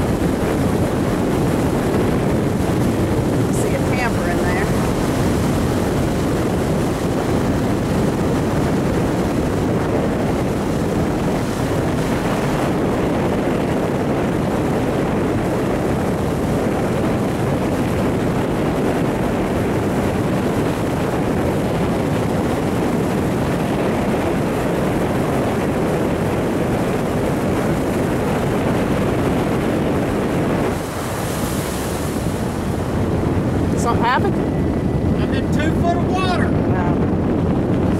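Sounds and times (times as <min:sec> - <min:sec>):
water noise from moving boat: 0:00.0 - 0:37.9
wind on microphone: 0:00.0 - 0:37.9.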